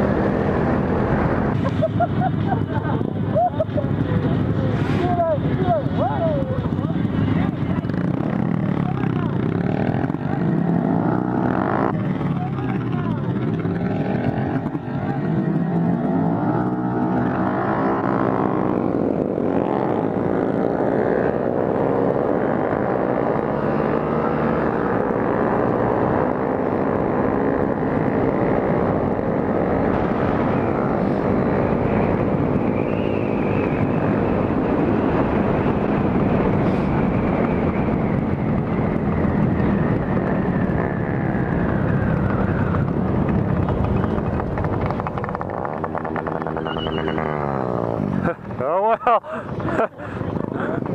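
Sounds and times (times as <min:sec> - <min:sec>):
small motorcycle engines revving: 0:00.0 - 0:50.9.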